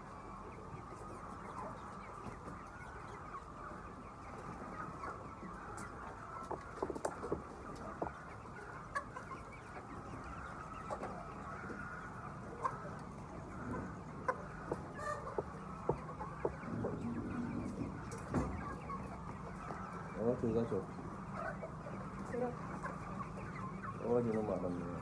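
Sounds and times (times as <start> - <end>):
chickens clucking: 0.0 - 25.0
sharp chicken calls: 0.0 - 25.0.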